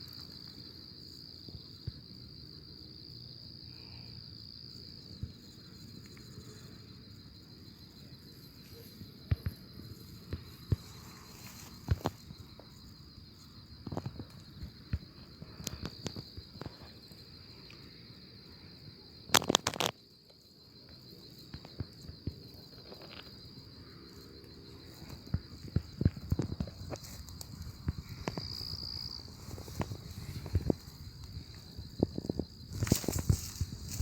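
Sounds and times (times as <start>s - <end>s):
night insects trilling: 0.0s - 34.0s.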